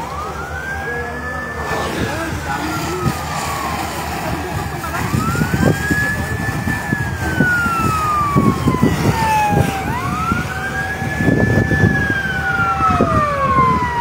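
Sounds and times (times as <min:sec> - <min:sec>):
emergency siren wailing: 0:00.0 - 0:14.0
lower siren tone: 0:00.0 - 0:14.0
rough low rumbling: 0:00.1 - 0:14.0.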